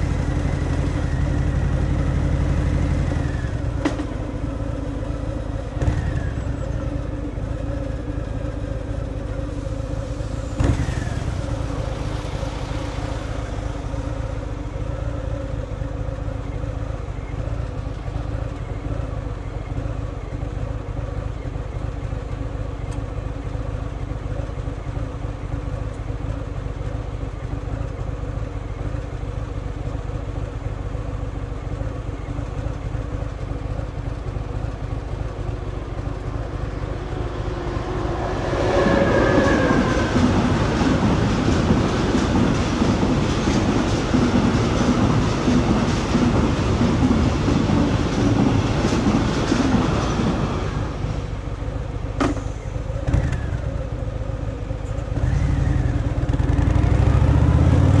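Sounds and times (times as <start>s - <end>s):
motorcycle engine running: 0.0s - 48.4s, 51.2s - 58.0s.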